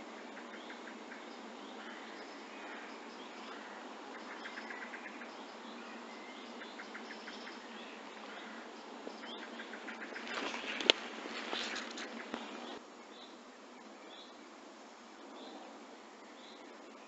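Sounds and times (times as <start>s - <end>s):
distant birds chirping: 0.0s - 17.0s
steady outdoor hiss: 0.0s - 17.0s.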